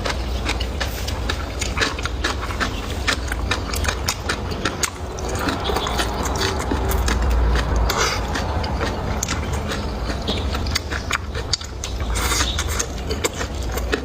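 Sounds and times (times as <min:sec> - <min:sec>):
person chewing with wet mouth clicks: 0:00.0 - 0:14.0
steady low rumble: 0:00.0 - 0:14.0.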